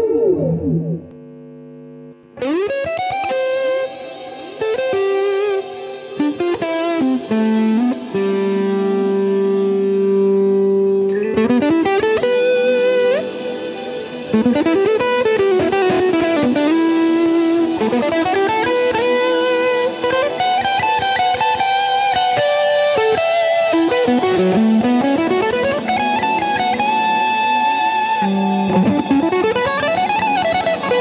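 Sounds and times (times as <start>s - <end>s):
electric guitar lead melody: 0.0s - 31.0s.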